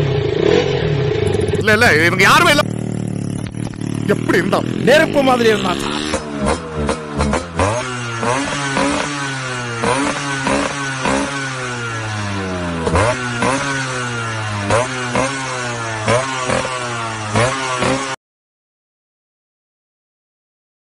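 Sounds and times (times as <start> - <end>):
motorcycle engine revving: 0.0 - 18.2.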